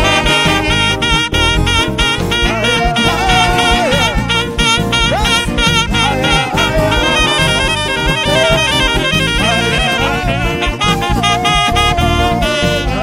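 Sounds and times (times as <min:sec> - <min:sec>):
upbeat instrumental band music: 0:00.0 - 0:13.0.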